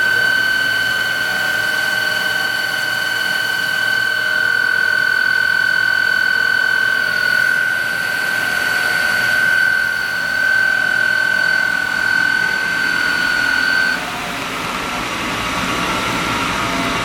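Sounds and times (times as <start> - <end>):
machine hum: 0.0 - 17.0
sander high-pitched whine: 0.0 - 17.0.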